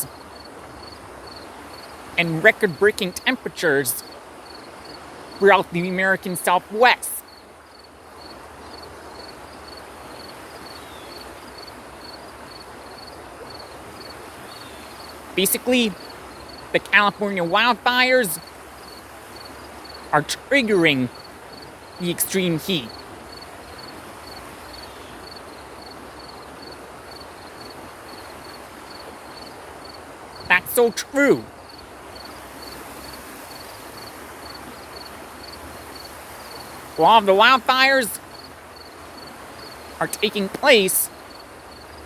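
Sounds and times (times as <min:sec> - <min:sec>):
background hiss: 0:00.0 - 0:42.0
crickets chirping: 0:00.0 - 0:42.0.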